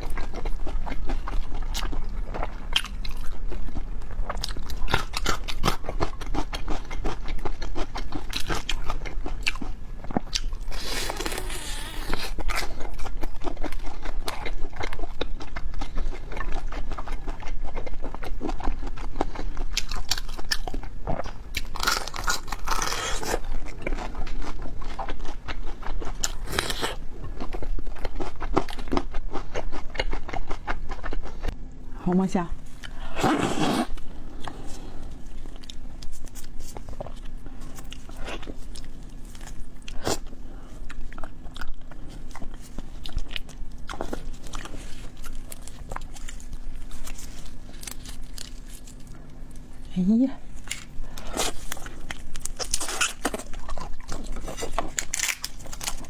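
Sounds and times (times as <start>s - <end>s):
person chewing food: 0.0s - 31.7s, 32.6s - 49.8s, 50.5s - 56.0s.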